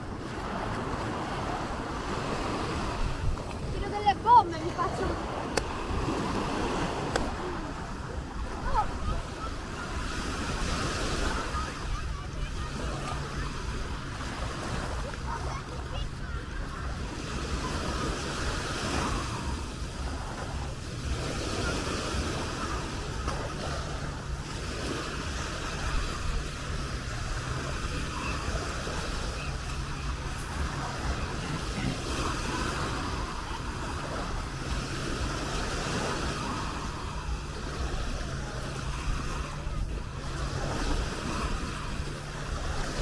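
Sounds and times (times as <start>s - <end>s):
faint voices: 0.0s - 43.0s
small waves breaking on sand: 0.0s - 43.0s
wind rumbling on microphone: 0.0s - 43.0s.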